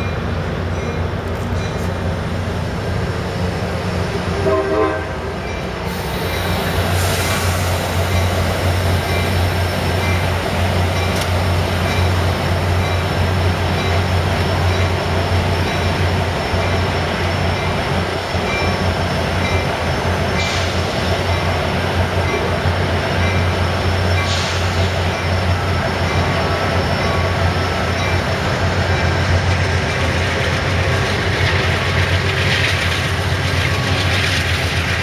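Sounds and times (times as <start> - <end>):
diesel locomotive humming: 0.0 - 35.0
train noise: 0.0 - 35.0.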